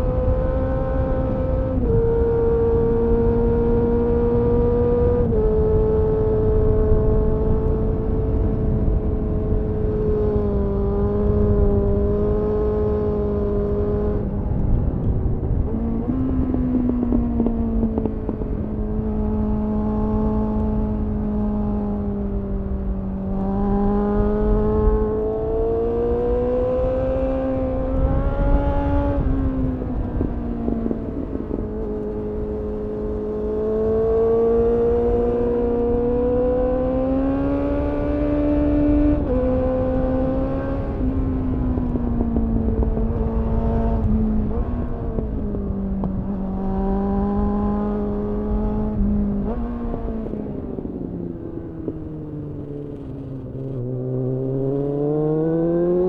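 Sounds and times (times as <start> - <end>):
motorcycle engine revving: 0.0 - 56.0
wind rumble: 0.0 - 56.0.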